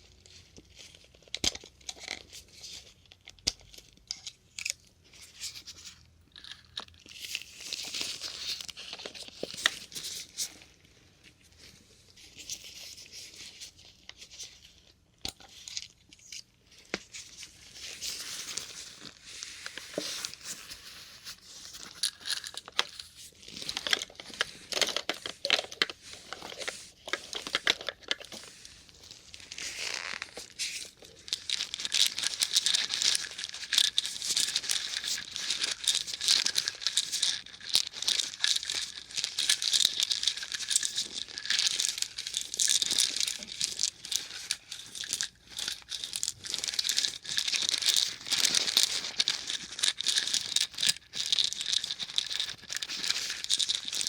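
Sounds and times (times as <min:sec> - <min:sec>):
plastic caps clicking and rustling: 0:01.2 - 0:10.6, 0:15.2 - 0:54.0.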